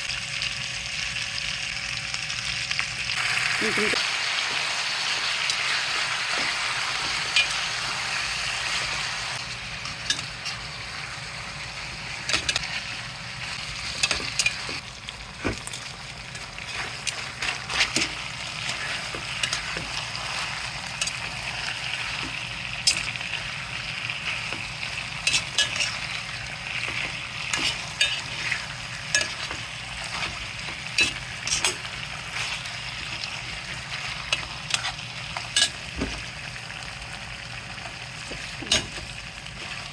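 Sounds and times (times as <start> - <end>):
meat sizzling in a pan: 0.0 - 39.9.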